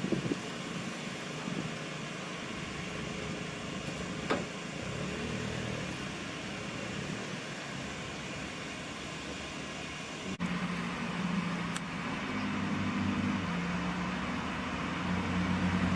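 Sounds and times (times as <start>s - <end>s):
truck engines rumbling: 0.0s - 15.9s.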